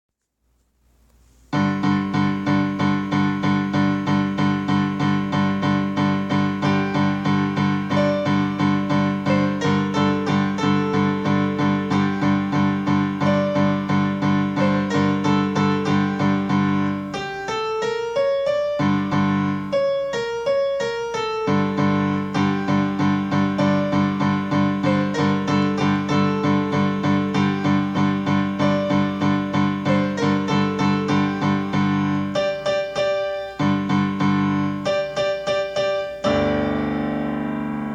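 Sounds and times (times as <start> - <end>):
electric piano music: 1.5 - 37.9.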